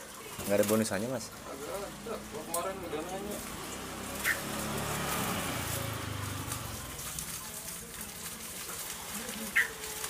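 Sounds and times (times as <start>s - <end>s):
bubble wrap crackling: 0.3s - 10.0s.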